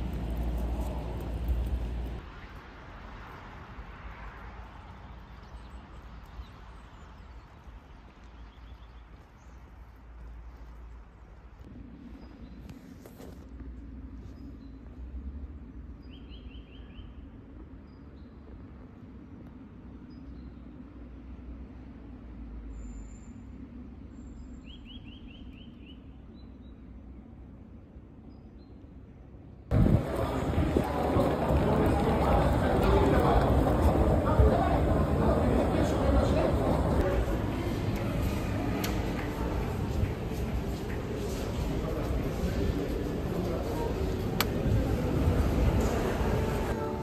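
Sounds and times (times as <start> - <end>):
distant road traffic rumble: 0.0 - 47.0.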